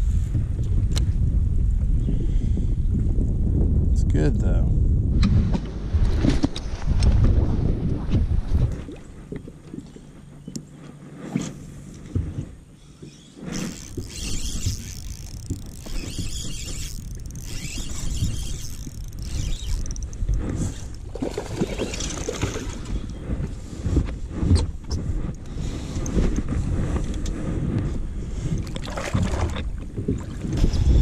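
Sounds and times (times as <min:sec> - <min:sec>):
wind buffeting microphone: 0:00.0 - 0:09.9, 0:13.5 - 0:31.0
water noise: 0:05.2 - 0:31.0.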